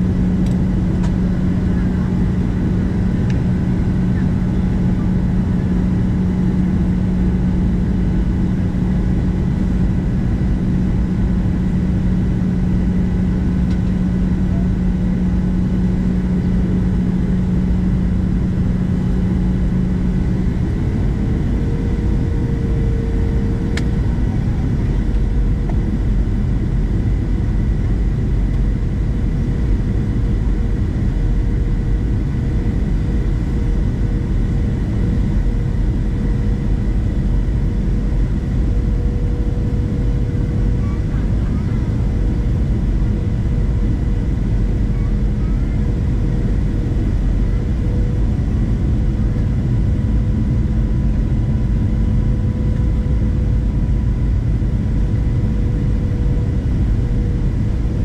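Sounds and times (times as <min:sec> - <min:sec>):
airplane cabin rumble: 0:00.0 - 0:58.0
low hum: 0:00.0 - 0:58.0.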